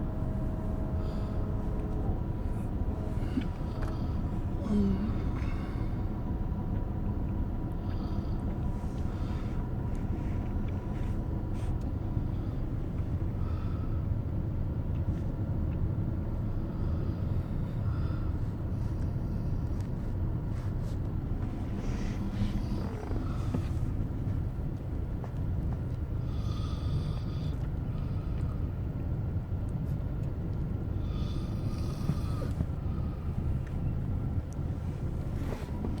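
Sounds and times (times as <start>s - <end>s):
snoring low rumble: 0.0s - 14.0s, 16.4s - 36.0s.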